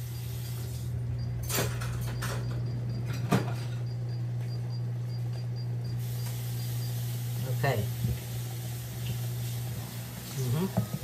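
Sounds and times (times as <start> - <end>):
cooktop humming: 0.0 - 11.0.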